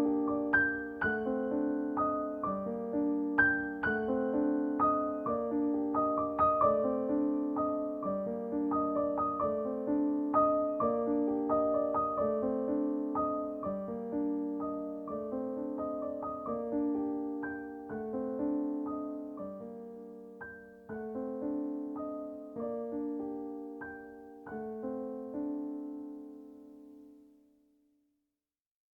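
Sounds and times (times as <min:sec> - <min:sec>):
piano music: 0:00.0 - 0:27.4.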